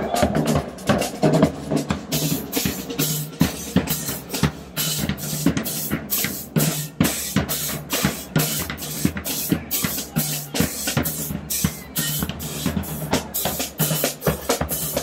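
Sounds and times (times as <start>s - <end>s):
drumline playing fast beat: 0.0s - 15.0s.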